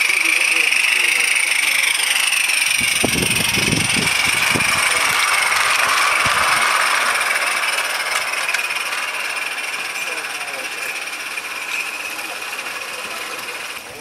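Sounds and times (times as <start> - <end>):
model train wheels clattering: 0.0 - 14.0.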